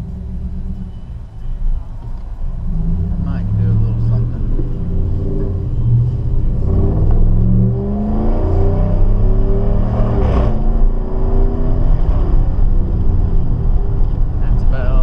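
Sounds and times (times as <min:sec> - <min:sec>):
truck exhaust drone: 0:00.0 - 0:14.8.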